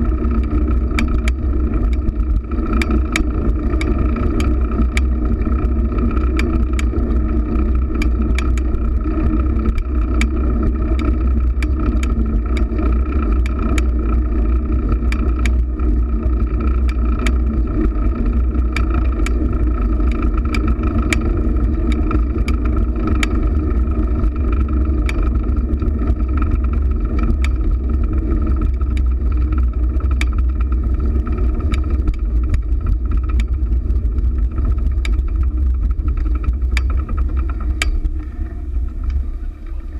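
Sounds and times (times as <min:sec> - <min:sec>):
bicycle clicks and rattles: 0:00.0 - 0:39.9
hum: 0:00.0 - 0:39.9
wind and road rumble: 0:00.0 - 0:39.9.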